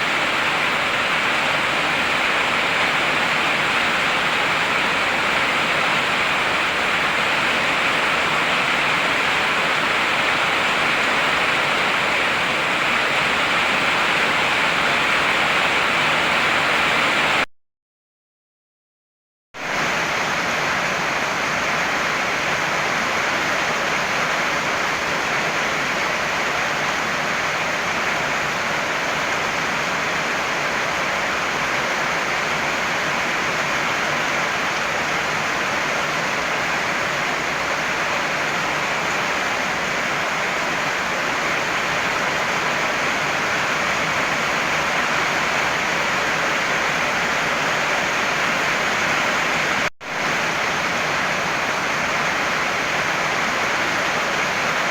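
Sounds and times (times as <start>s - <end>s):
heavy rain pouring: 0.0s - 17.5s, 19.6s - 54.9s.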